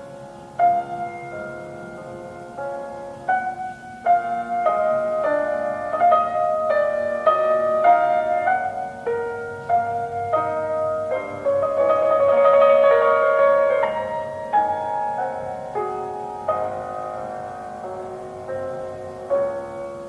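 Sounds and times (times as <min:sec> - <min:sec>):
slow tender piano music: 0:00.0 - 0:20.0.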